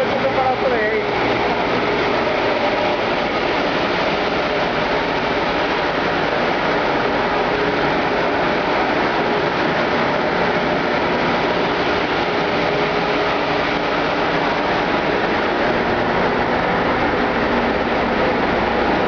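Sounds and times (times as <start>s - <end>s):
engine room machinery din: 0.0s - 19.0s.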